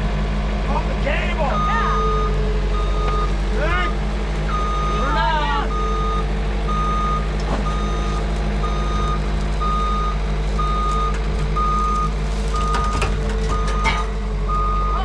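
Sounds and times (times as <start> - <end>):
backup alarm beeping: 1.5 - 3.3, 4.5 - 15.0.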